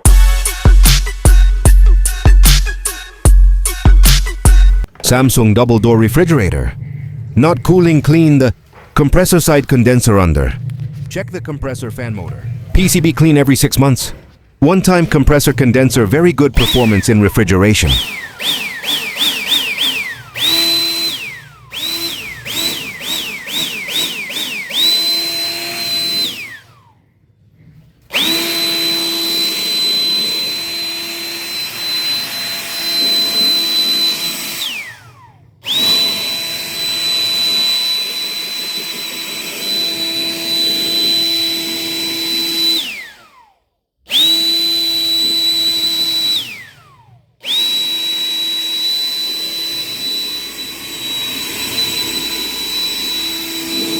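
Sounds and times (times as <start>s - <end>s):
electric blower motor whining: 0.0s - 27.0s, 28.0s - 53.9s.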